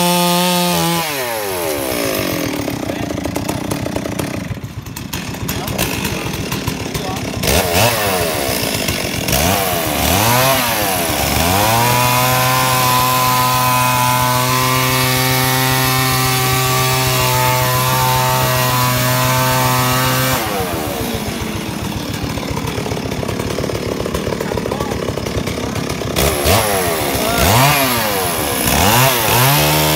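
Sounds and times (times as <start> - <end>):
chainsaw revving and cutting: 0.0 - 29.9.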